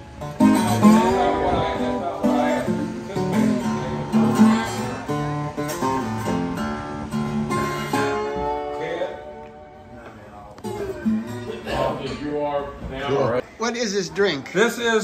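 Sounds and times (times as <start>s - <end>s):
song with acoustic guitar: 0.0s - 13.4s.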